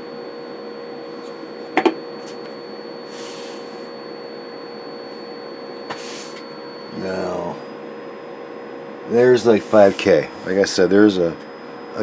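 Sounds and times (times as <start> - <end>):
hiss and hum: 1.2 - 12.0.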